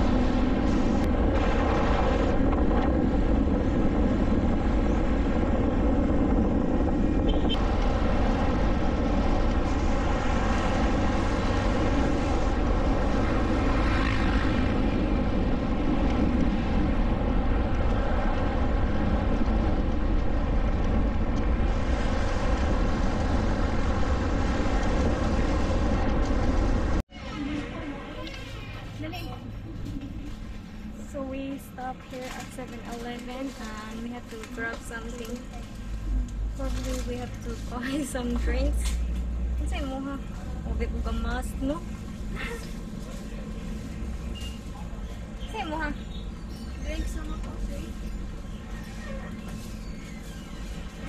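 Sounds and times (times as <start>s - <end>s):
wind rumble on microphone: 0.0s - 51.0s.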